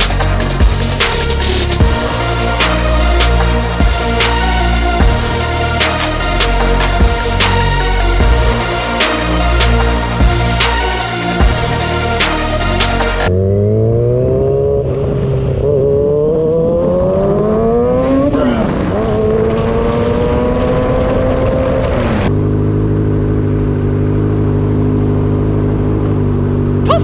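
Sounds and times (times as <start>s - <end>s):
low engine hum: 0.0s - 27.0s
vehicle engine accelerating: 0.0s - 27.0s.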